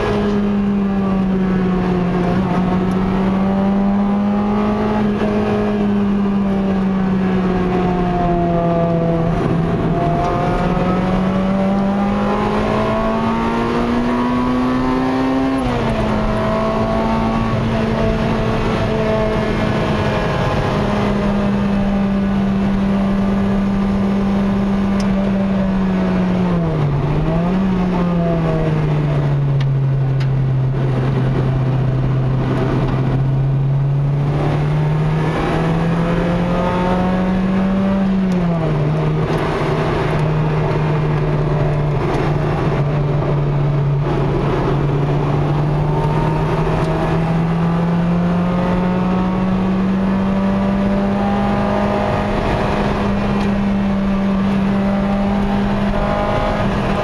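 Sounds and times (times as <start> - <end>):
car engine from inside cabin: 0.0 - 57.0
road and tyre noise: 0.0 - 57.0.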